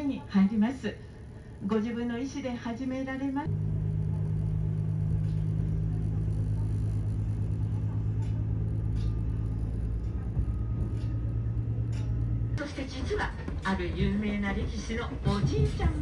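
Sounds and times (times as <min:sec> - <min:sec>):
diesel railcar engine drone: 0:00.0 - 0:16.0.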